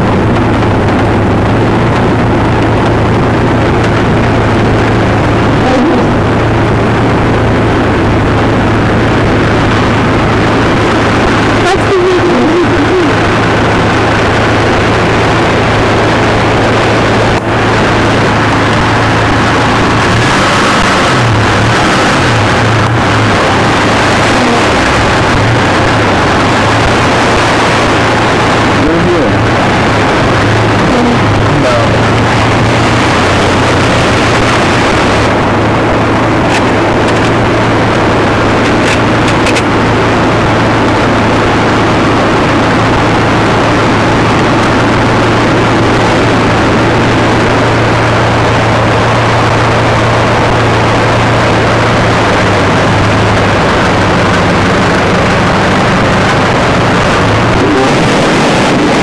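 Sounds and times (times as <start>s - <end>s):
low steady hum: 0.0s - 59.0s
river rushing: 0.0s - 59.0s.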